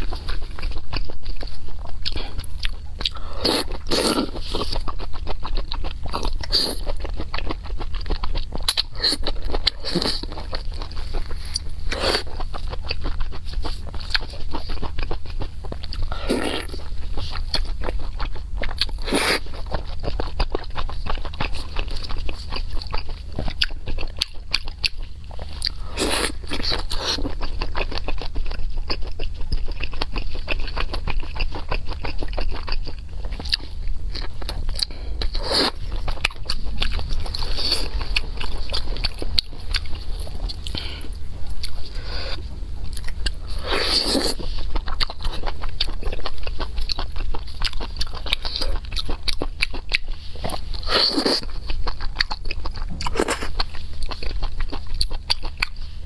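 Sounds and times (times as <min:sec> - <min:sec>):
biting and chewing food: 0:00.0 - 0:56.0
steady low hum: 0:00.0 - 0:56.0.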